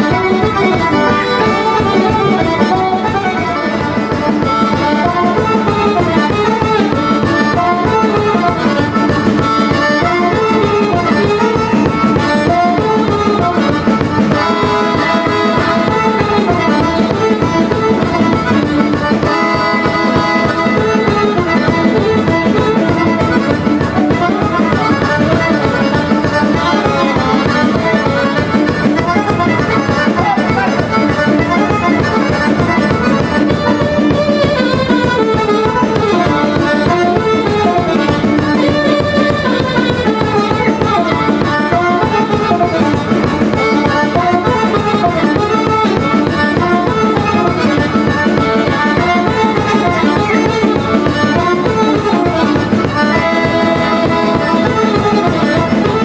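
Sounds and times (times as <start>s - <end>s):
accordion playing quick melody: 0.0s - 56.0s
steady drum beat: 0.0s - 56.0s.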